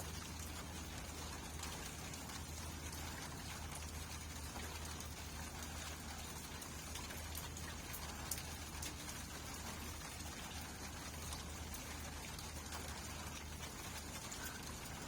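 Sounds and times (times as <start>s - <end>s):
low steady hum: 0.0s - 15.0s
raindrops ticking: 0.0s - 15.0s
steady rain hissing: 0.0s - 15.0s.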